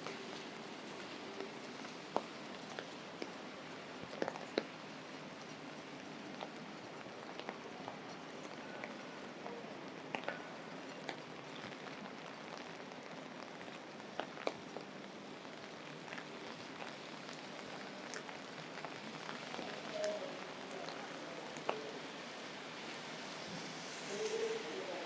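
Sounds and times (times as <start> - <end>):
raindrops ticking on umbrella: 0.0 - 22.9
steady rain: 0.0 - 25.0.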